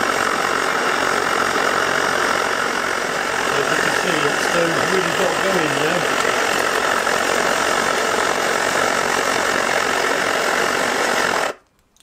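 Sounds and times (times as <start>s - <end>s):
stove burner hissing: 0.0s - 11.6s.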